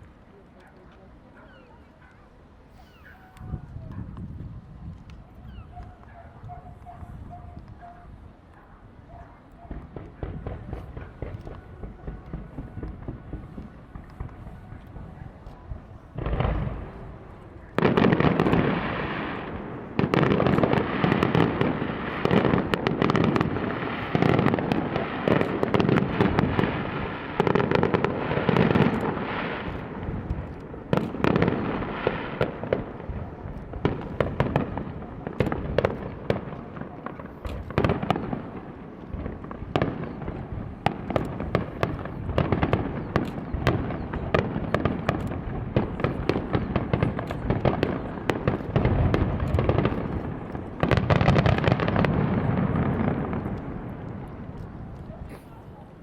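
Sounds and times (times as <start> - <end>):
fireworks crackling: 0.0 - 1.2, 2.6 - 56.0.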